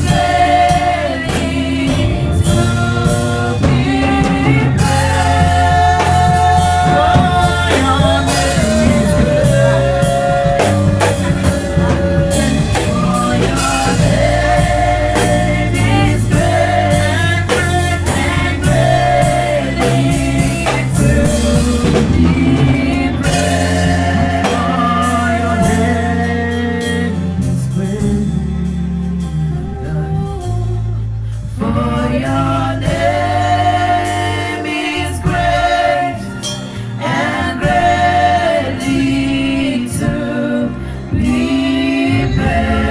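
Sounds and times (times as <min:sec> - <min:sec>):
band with drums and bass: 0:00.0 - 0:42.9
voices singing: 0:00.0 - 0:42.9.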